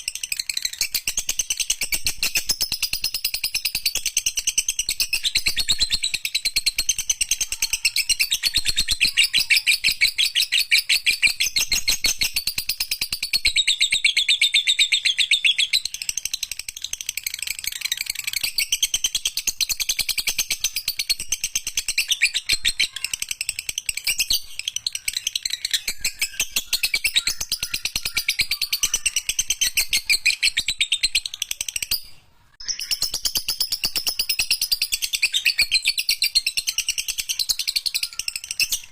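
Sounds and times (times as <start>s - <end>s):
lovebird rapid high chirps: 0.0s - 38.9s.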